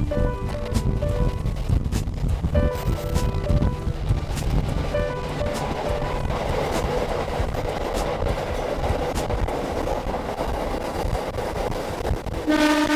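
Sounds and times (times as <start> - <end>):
rail joints clacking: 0.0 - 11.9
train rumbling on rails: 0.0 - 12.9.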